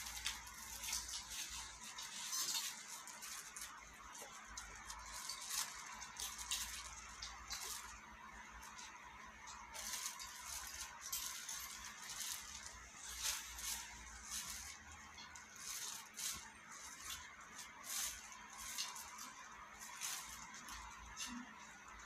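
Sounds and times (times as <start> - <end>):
fabric rustling: 0.0 - 22.0
hangers scraping and clicking: 0.0 - 22.0.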